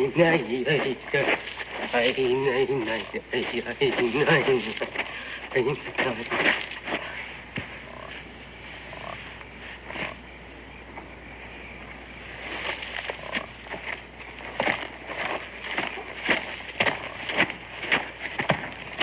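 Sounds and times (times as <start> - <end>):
rustles and knocks of movement: 0.0 - 11.1, 11.9 - 19.0
cricket chirping: 0.0 - 19.0
frogs croaking: 0.0 - 19.0.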